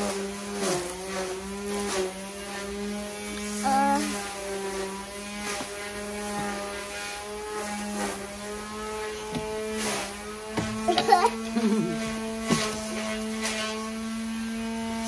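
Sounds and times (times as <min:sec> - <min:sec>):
lawnmower droning: 0:00.0 - 0:15.0.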